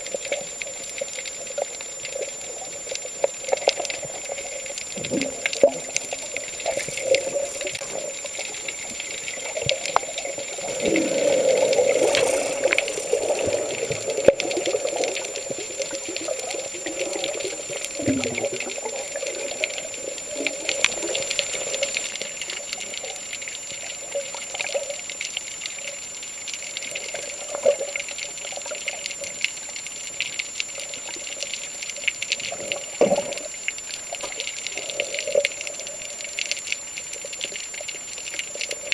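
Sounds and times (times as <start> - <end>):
high-pitched whine: 0.0 - 37.0
water bubbling and crackling: 0.0 - 38.9.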